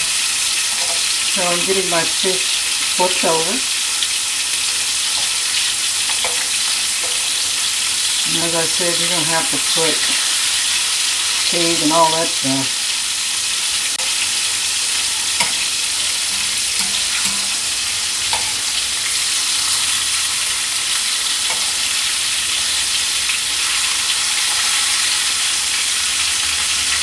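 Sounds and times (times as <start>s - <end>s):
fish frying in hot oil: 0.0s - 27.0s.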